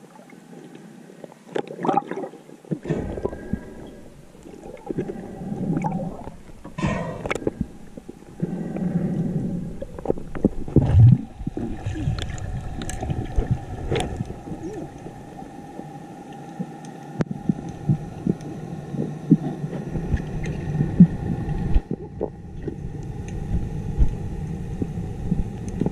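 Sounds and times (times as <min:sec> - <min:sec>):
underwater hum: 0:00.0 - 0:25.9.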